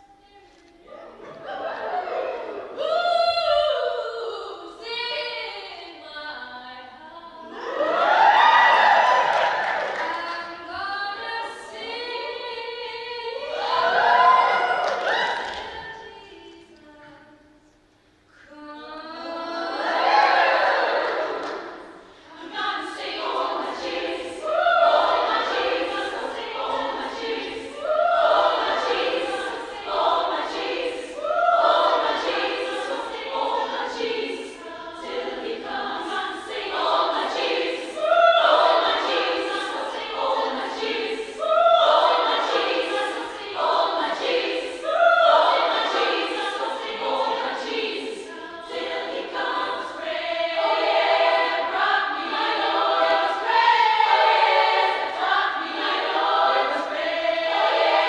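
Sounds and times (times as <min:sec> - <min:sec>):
women's choir singing: 0:00.0 - 0:58.0.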